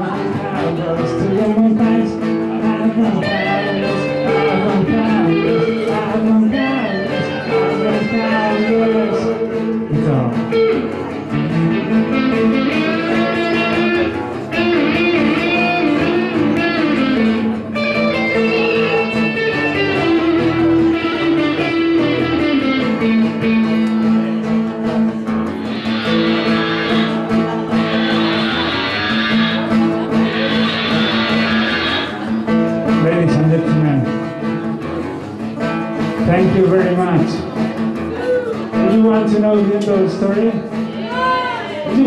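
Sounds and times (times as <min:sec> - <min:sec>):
electric guitar melodic lines: 0:00.0 - 0:42.0
strummed acoustic guitar: 0:00.0 - 0:42.0.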